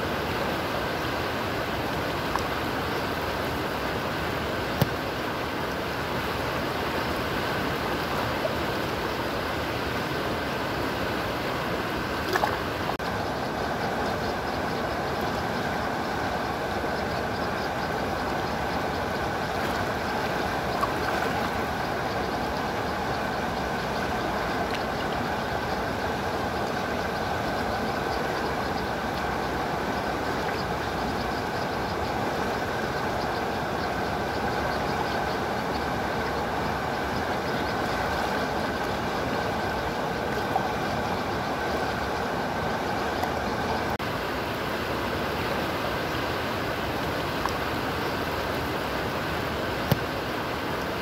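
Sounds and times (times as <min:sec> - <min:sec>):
river water rushing over rocks: 0:00.0 - 0:51.0.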